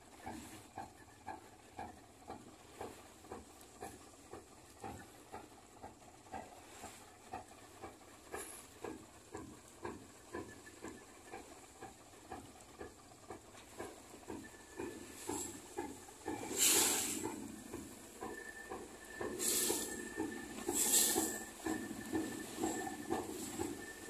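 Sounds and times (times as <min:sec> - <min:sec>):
faint boat engine chugging: 0:00.0 - 0:24.0.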